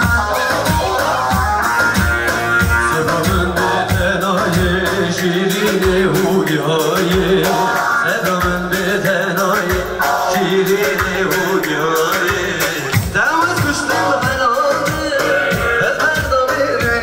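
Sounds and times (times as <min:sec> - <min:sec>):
folk band playing: 0:00.0 - 0:17.0
person singing: 0:00.0 - 0:17.0
steady drum beat: 0:00.0 - 0:17.0.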